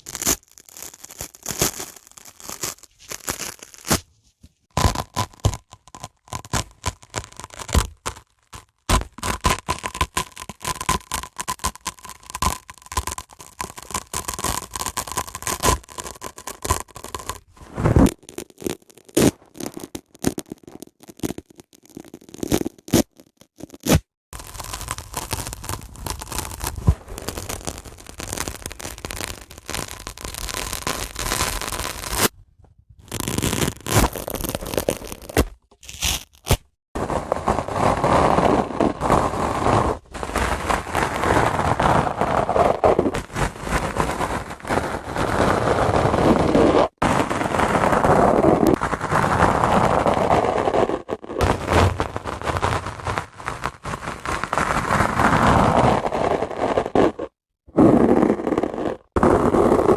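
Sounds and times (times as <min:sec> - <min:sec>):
dry sponge scraping and crunching: 0:01.4 - 0:32.3, 0:33.0 - 0:59.9.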